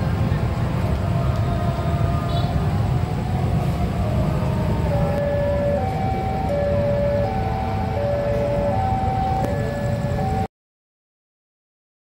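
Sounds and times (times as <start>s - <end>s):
heavy road traffic rumble: 0.0s - 10.5s
two-tone siren: 0.6s - 10.5s.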